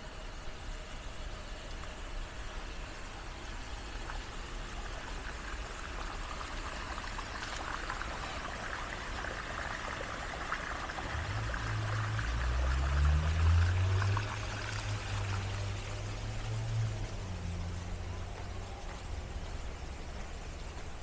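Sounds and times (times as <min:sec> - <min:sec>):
water trickling and splashing: 0:01.6 - 0:21.0.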